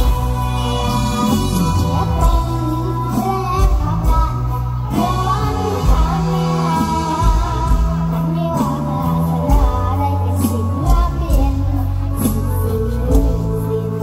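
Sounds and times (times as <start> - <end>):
amplified band with drums and bass: 0.0 - 14.0
girl singing into microphone: 0.0 - 14.0.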